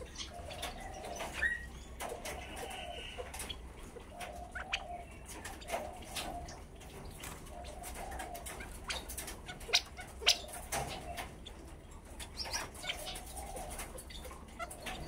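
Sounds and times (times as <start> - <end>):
quail calling softly: 0.0 - 15.0.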